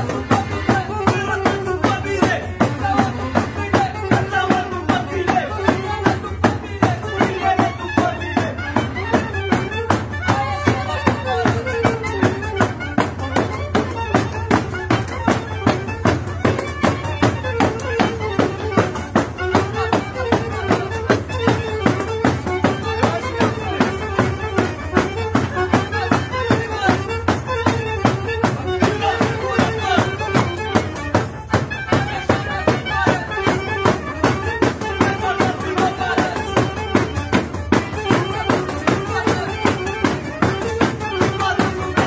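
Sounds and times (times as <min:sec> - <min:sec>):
saxophone and clarinet melody: 0:00.0 - 0:42.0.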